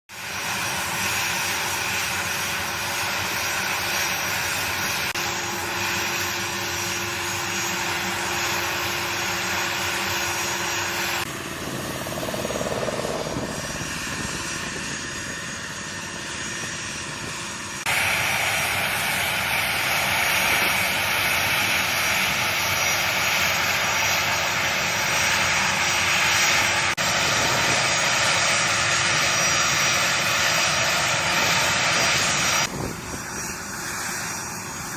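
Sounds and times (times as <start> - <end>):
jet engines whining: 0.1 - 34.9.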